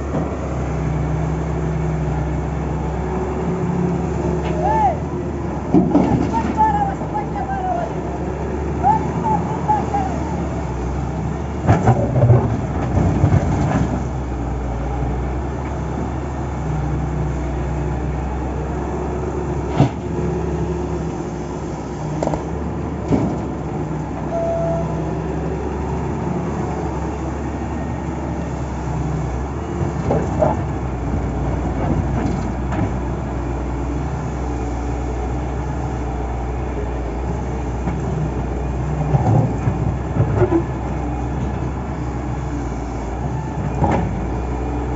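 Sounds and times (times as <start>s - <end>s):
diesel machinery engine drone: 0.0s - 44.9s.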